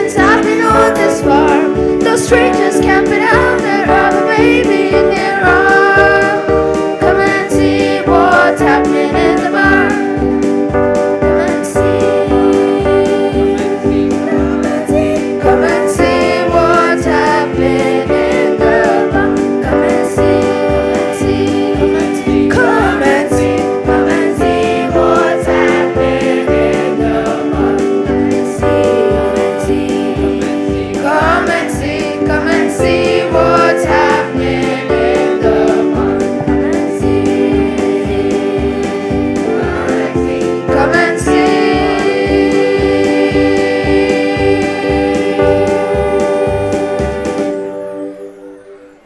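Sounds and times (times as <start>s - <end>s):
boys' choir singing: 0.0s - 10.2s, 11.3s - 47.9s
steady beat: 0.0s - 47.6s
electronic keyboard: 0.0s - 49.0s.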